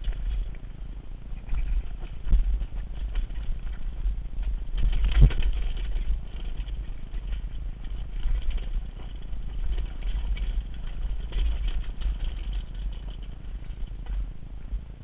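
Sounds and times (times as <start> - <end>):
mountain bike rattling on rocky trail: 0.0 - 15.0
wind buffeting microphone: 0.0 - 15.0.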